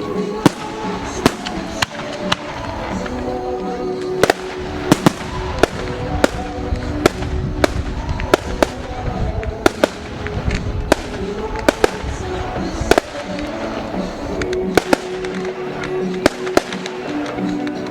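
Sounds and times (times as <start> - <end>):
fireworks bangs and cracks: 0.0 - 17.9
music playing: 0.0 - 17.9.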